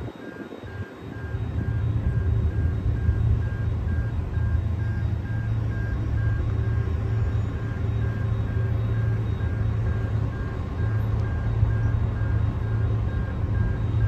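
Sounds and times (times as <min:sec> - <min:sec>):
diesel locomotives rumbling: 0:00.0 - 0:14.0
pulsing electronic warning signal: 0:00.0 - 0:14.0.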